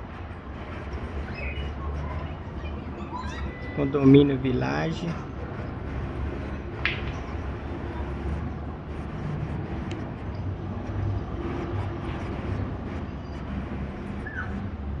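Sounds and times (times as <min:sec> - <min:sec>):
distant helicopter rumble: 0:00.0 - 0:15.0.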